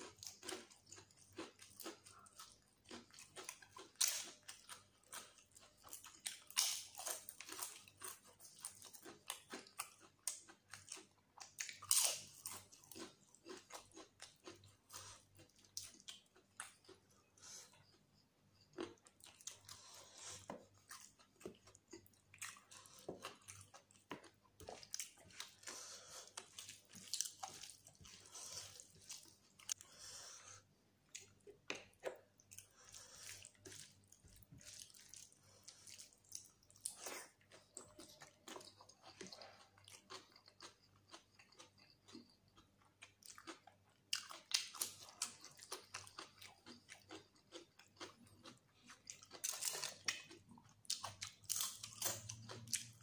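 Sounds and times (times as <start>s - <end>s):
man chewing food: 0.0s - 53.0s.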